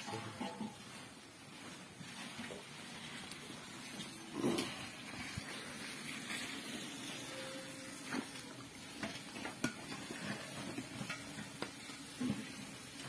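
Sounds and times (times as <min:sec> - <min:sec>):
water boiling in a pot: 0:00.0 - 0:13.0.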